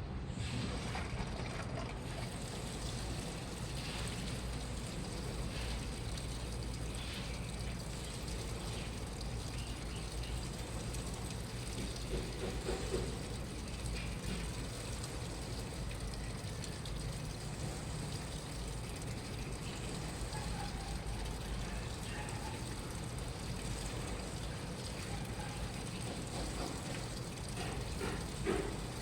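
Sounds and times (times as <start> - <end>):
washing machine hum: 0.0 - 29.0
water noise: 0.3 - 29.0
light mechanical clatter: 0.6 - 17.6, 18.5 - 29.0.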